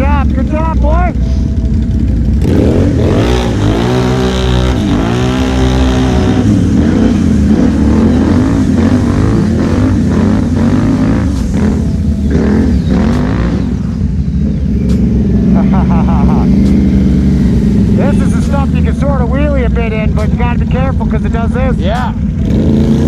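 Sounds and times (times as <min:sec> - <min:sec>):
quad engine revving: 0:00.0 - 0:23.0.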